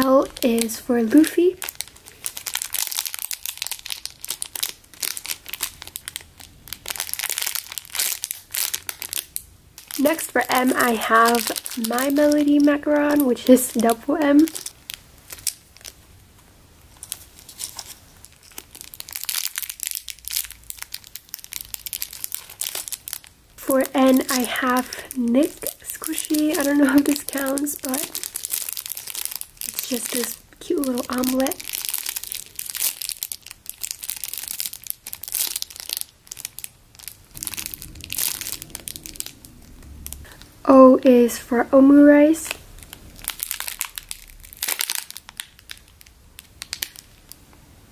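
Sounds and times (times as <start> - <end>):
plastic bag crinkling: 0.0 - 16.1, 16.8 - 40.5, 42.3 - 47.5.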